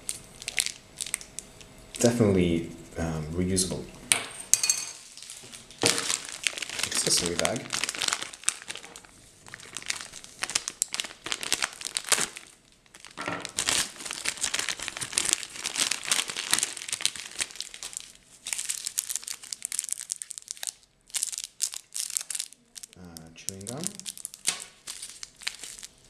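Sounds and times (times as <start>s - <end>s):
plastic bag and packets crinkling: 0.0s - 2.1s, 5.0s - 26.0s.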